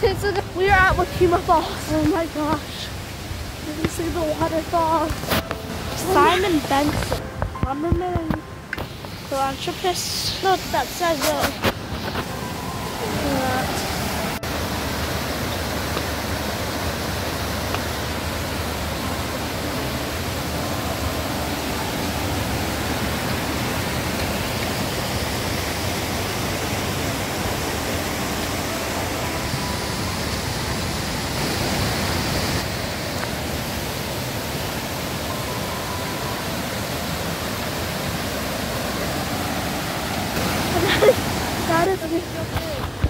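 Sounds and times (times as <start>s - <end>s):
waterfall cascading over rocks: 0.0s - 43.0s.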